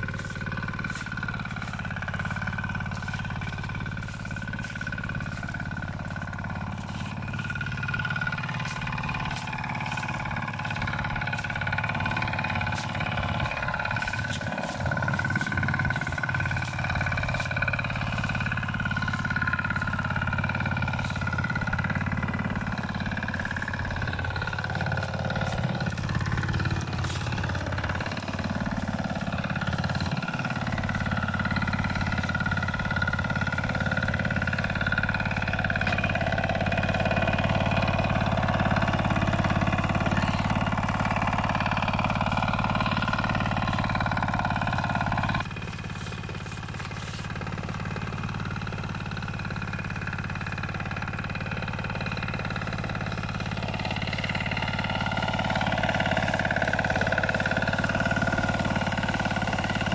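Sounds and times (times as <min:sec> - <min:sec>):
power tiller engine running: 0:00.0 - 0:59.9.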